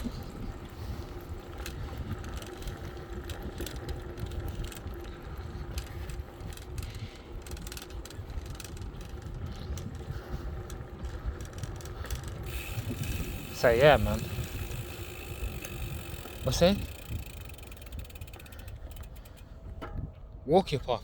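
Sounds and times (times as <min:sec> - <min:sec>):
bicycle ticks and clicks: 0:00.0 - 0:20.4
wind rumble on microphone: 0:00.0 - 0:21.0.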